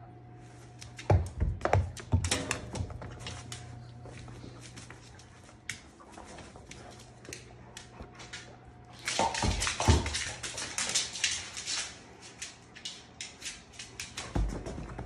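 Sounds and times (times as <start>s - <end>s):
dog claws scrabbling on wooden floor: 0.8s - 15.0s.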